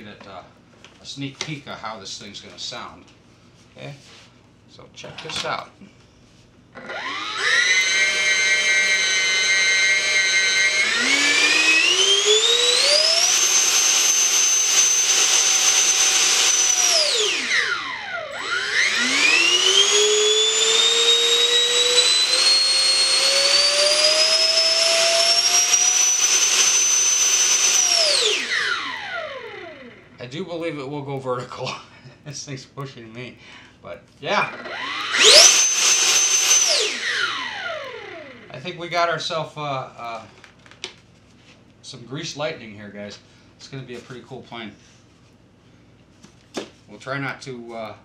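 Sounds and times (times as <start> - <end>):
electric ducted fan whine: 0.0 - 48.0.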